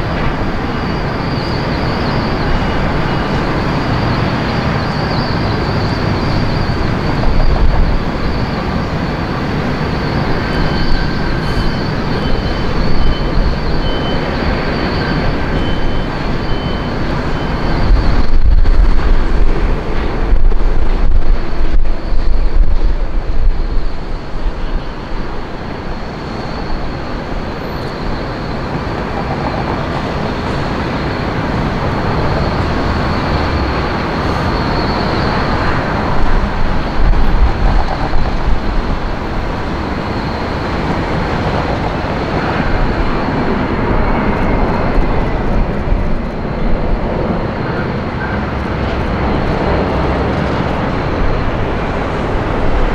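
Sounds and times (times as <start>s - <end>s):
jet engines roaring: 0.0s - 52.9s
wind gusts on microphone: 0.0s - 52.9s.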